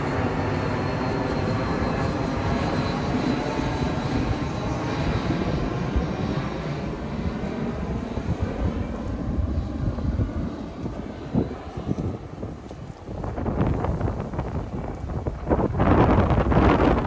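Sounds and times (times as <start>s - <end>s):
high engine whine: 0.0s - 17.0s
jet airliner flying overhead: 0.0s - 17.0s.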